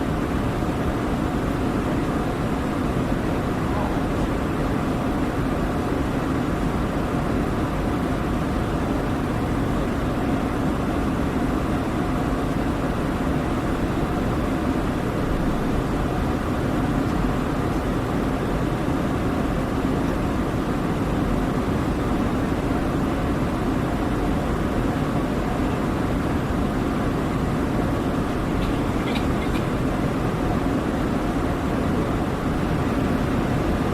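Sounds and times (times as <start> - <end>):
jet engines droning: 0.0 - 33.9.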